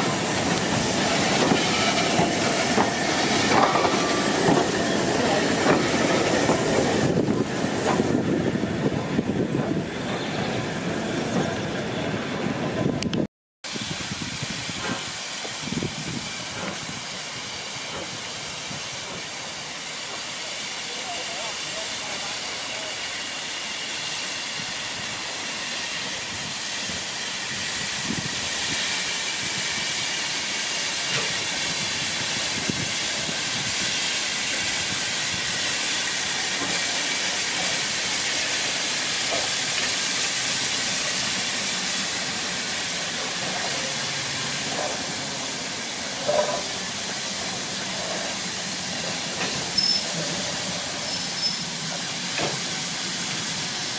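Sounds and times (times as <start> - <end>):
steam locomotive hissing steam: 0.0 - 13.0, 13.7 - 53.9.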